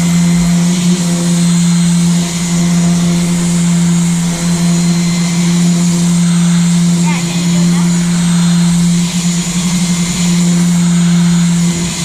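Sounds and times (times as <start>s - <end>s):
power sander humming: 0.0s - 12.0s.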